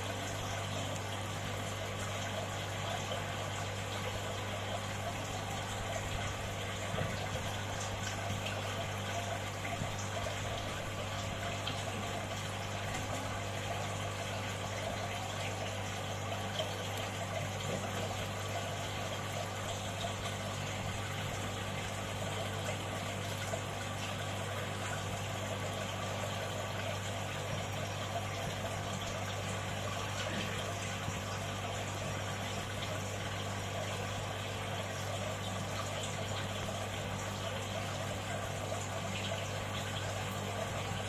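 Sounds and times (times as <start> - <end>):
aquarium pump humming: 0.0 - 41.0
water trickling and splashing: 0.0 - 41.0.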